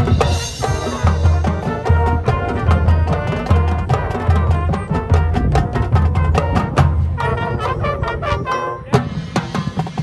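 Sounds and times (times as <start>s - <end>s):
marching band playing: 0.0s - 10.0s
sharp percussion strikes: 0.0s - 10.0s.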